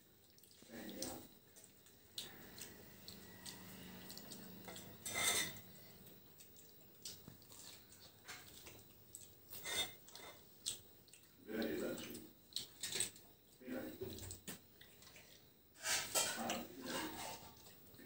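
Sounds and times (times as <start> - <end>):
children eating: 0.0 - 18.0.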